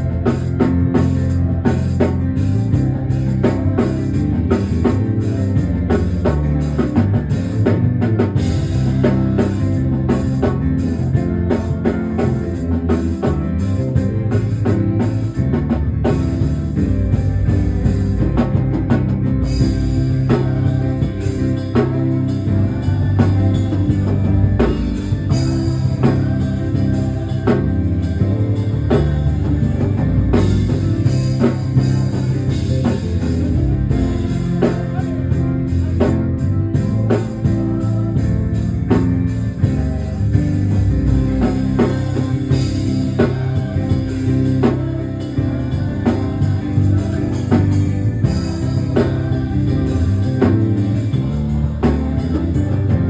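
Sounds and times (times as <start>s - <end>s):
bass guitar: 0.0s - 53.0s
drum kit: 0.0s - 53.0s
electric guitar: 0.0s - 53.0s.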